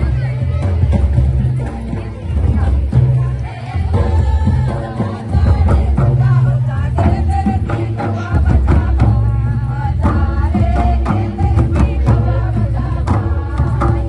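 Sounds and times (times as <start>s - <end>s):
deep barrel drum strokes: 0.0s - 14.0s
group of voices singing: 0.0s - 14.0s.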